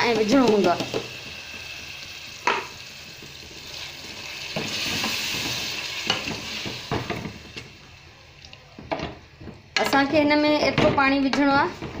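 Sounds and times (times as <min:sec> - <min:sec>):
vegetables sizzling in hot oil: 0:00.0 - 0:11.9.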